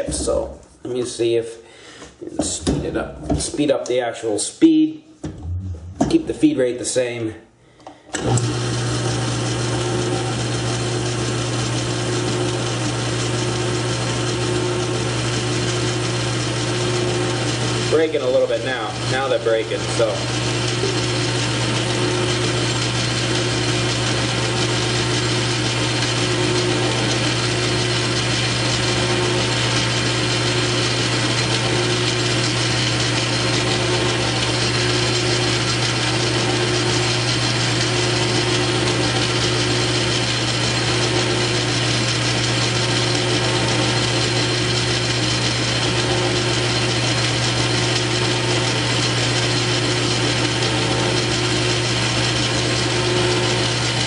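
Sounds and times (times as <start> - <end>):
lathe motor and belt hum: 8.1 - 54.0.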